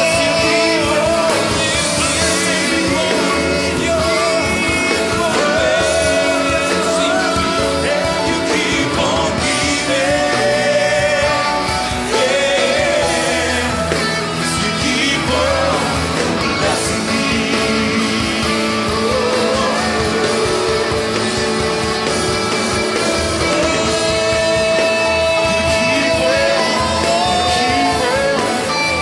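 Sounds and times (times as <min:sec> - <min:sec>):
people singing: 0:00.0 - 0:29.0
worship band with electric guitar: 0:00.0 - 0:29.0.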